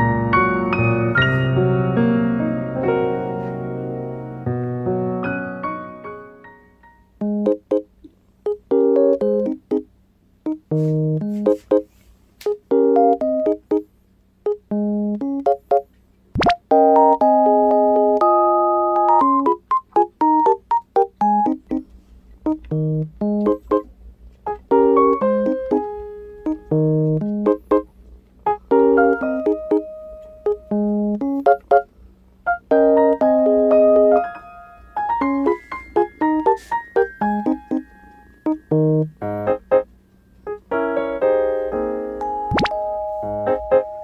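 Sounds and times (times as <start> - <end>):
piano music: 0.0 - 9.9, 10.5 - 11.9, 12.5 - 13.9, 14.5 - 15.9, 16.6 - 31.9, 32.5 - 44.0.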